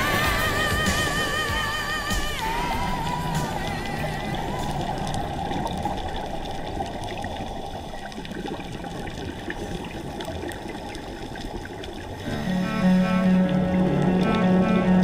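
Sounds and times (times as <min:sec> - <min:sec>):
muffled underwater rushing: 0:00.0 - 0:15.0.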